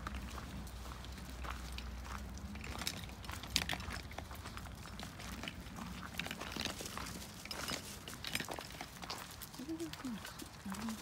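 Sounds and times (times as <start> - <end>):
footsteps crunching on gravel: 0.0 - 11.0.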